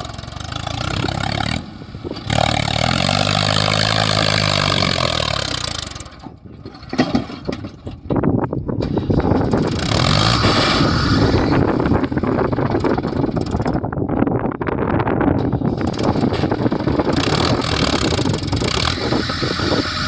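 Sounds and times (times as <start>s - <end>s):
diesel engine drone: 0.0s - 20.0s
rattly engine rumble: 0.0s - 20.0s.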